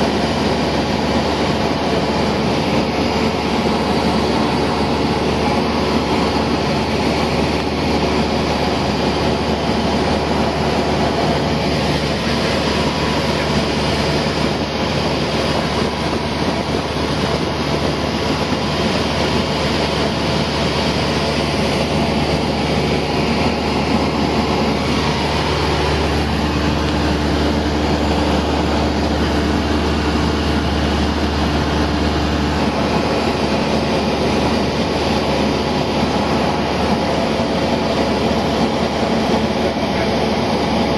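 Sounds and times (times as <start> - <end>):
loud rushing noise: 0.0 - 40.9
low hum: 0.0 - 40.9
propeller plane engine droning: 0.0 - 40.9.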